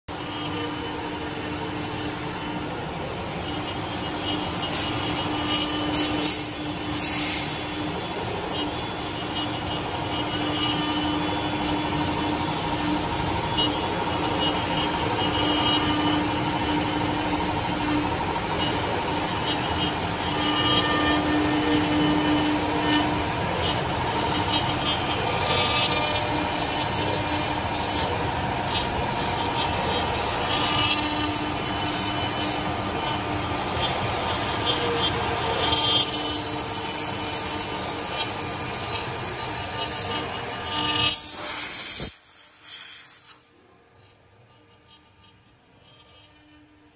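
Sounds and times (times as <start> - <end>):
wood lathe machine drone: 0.1 - 43.6, 44.7 - 46.9.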